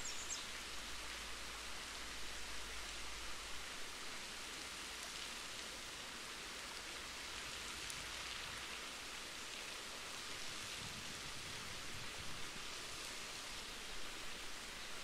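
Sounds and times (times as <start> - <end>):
waterfall pouring and splashing: 0.0 - 15.0.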